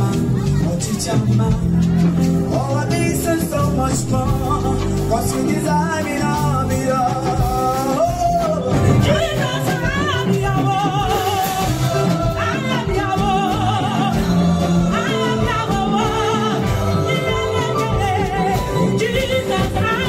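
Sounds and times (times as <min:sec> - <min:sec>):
gospel song with full band: 0:00.0 - 0:20.0.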